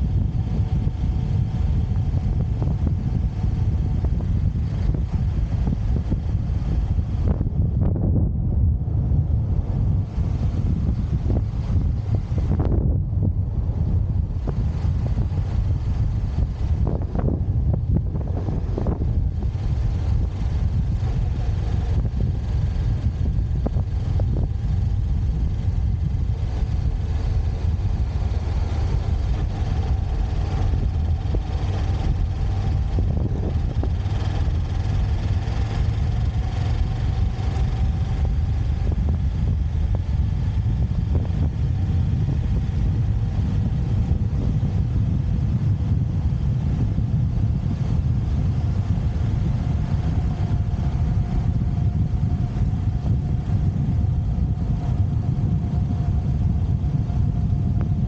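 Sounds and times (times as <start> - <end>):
motorcycle engine rumble: 0.0 - 58.0
road noise: 0.0 - 58.0
wind noise: 0.0 - 58.0.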